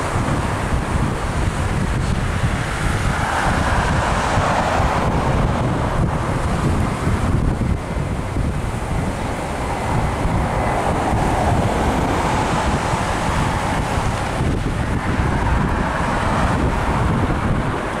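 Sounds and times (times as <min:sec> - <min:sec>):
jet engines rushing: 0:00.0 - 0:18.0
wind buffeting microphone: 0:00.0 - 0:18.0.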